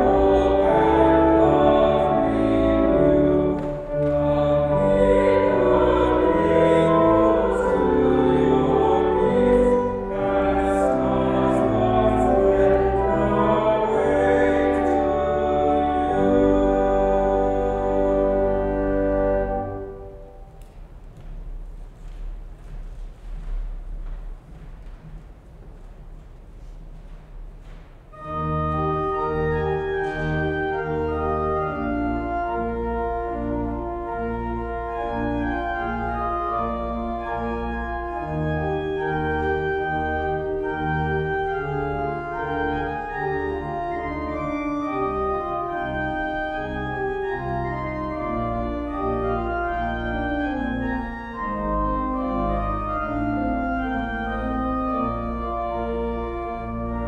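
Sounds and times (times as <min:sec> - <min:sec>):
pipe organ playing chords: 0:00.0 - 0:21.4, 0:28.1 - 0:57.0.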